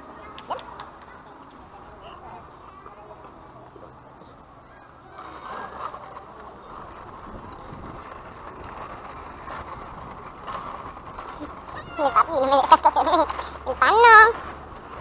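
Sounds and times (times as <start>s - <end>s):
plastic wheels rolling on pavement: 0.0s - 15.0s.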